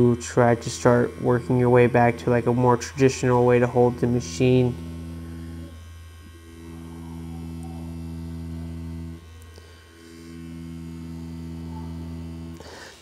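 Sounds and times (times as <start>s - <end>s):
tattoo machine humming: 0.0s - 13.0s.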